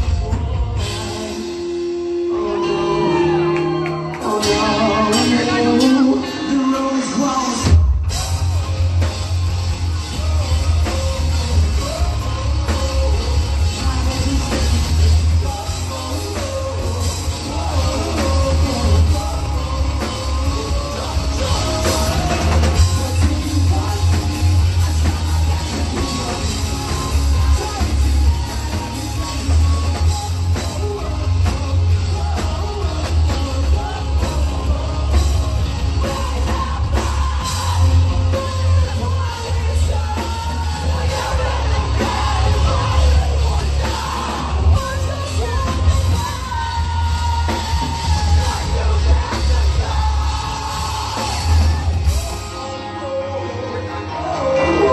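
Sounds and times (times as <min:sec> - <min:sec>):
live pop-punk band playing: 0:00.0 - 0:54.9
singer singing and shouting: 0:00.0 - 0:54.9.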